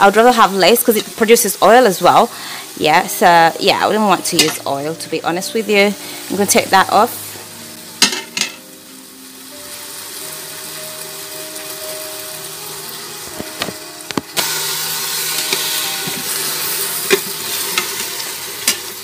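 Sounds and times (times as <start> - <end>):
meat sizzling in pot: 0.0 - 19.0.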